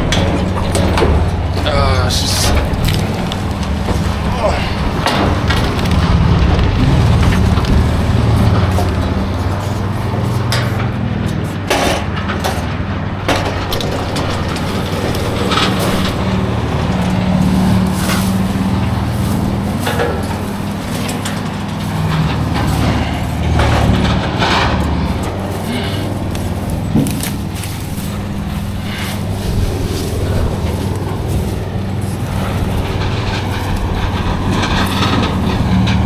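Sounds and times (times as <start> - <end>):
knocks and clacks: 0.0 - 36.0
vehicle engine humming: 0.0 - 36.0.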